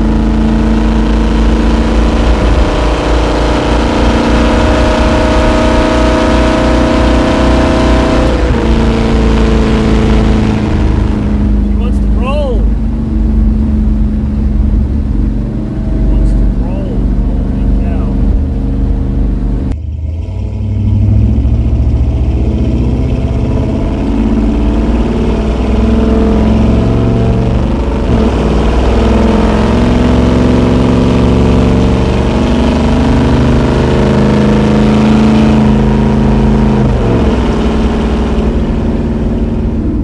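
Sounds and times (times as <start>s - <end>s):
car engine accelerating: 0.0s - 40.0s.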